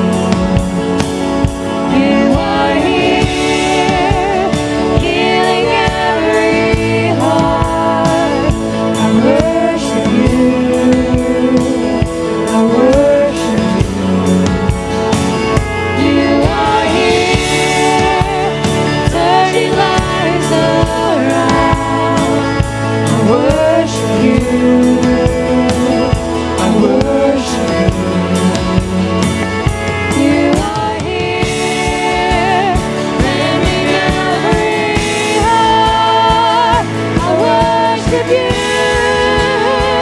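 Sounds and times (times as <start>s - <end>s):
band playing: 0.0s - 40.0s
steady drum beat: 0.0s - 40.0s
person singing: 1.8s - 14.9s, 15.8s - 40.0s.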